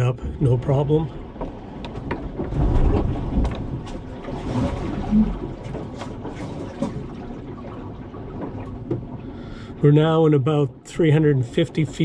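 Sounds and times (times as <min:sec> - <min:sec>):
water rushing along hull: 0:00.0 - 0:12.0
wind: 0:00.0 - 0:12.0.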